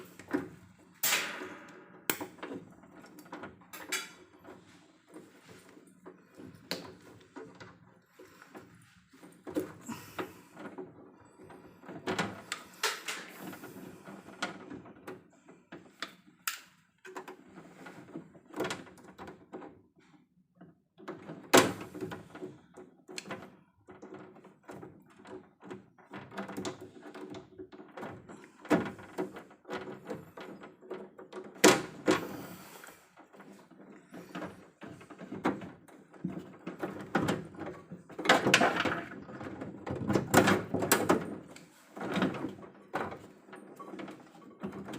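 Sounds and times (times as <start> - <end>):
handling knocks and clatter: 0.0 - 44.9.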